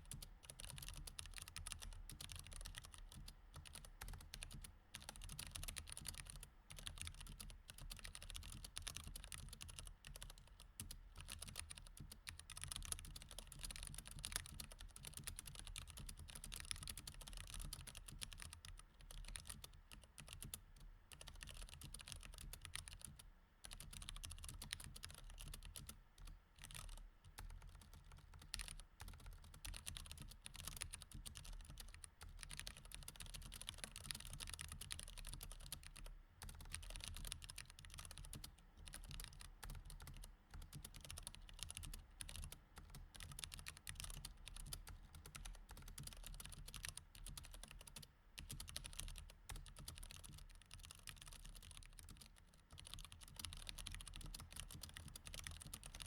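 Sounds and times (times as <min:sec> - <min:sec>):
mechanical keyboard typing: 0:00.1 - 0:56.0.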